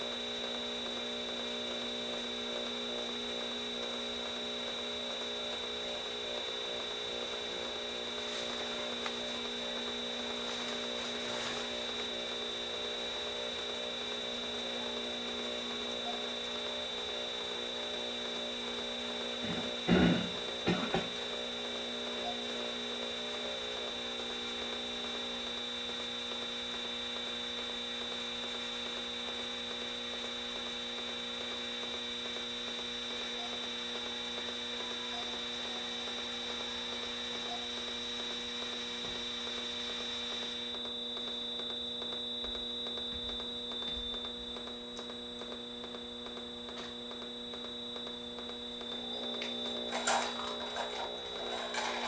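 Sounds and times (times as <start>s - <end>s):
electric hum and buzz: 0.0s - 52.0s.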